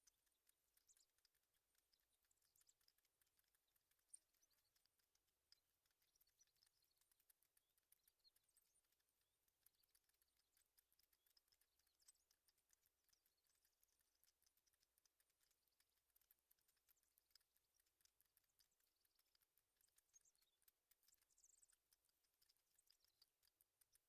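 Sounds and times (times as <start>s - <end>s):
faint bird chirps: 0.0s - 24.0s
soft scattered clicks: 0.0s - 24.0s.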